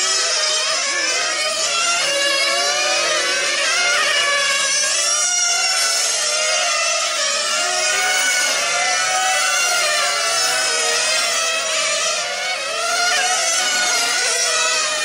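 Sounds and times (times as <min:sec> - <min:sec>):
small rc car engines buzzing: 0:00.0 - 0:15.0.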